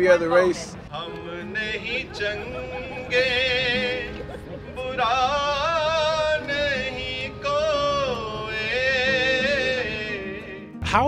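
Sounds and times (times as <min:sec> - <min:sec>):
person singing with vibrato: 0:00.9 - 0:11.0.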